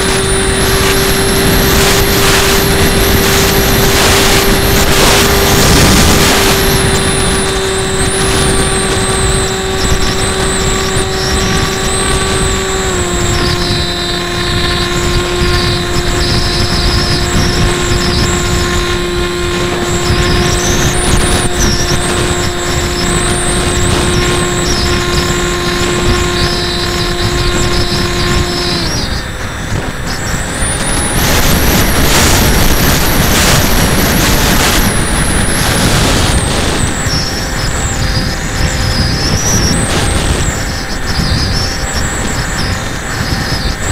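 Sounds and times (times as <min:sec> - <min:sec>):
electric motor and propeller whining: 0:00.0 - 0:43.9
wind rush over microphone: 0:00.0 - 0:43.9.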